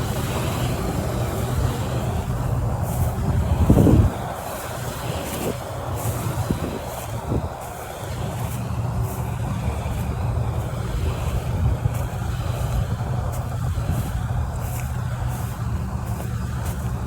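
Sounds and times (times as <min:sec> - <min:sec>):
harvester engine low rumble: 0:00.0 - 0:17.0.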